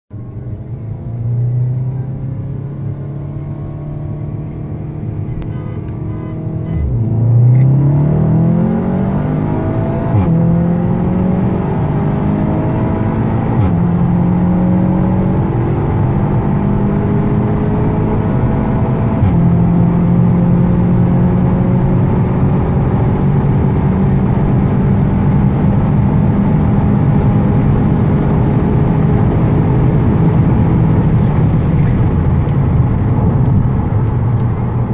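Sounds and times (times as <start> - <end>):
car engine at full throttle: 0.1 - 34.9
road and wind noise: 0.1 - 34.9.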